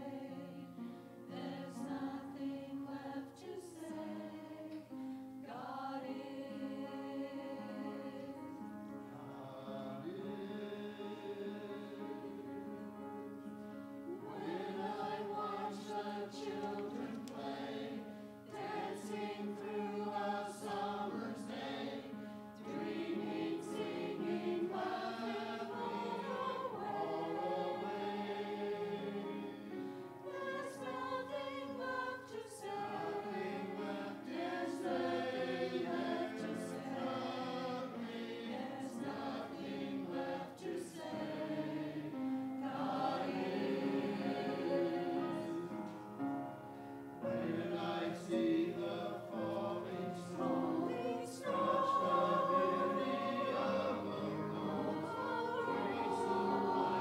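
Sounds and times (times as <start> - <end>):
choir singing: 0.0 - 57.0
piano accompaniment: 6.8 - 57.0.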